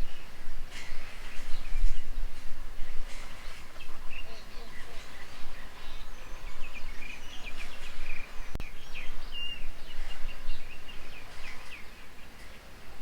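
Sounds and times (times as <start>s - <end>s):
birds chirping: 0.0s - 13.0s
low background noise: 0.0s - 13.0s.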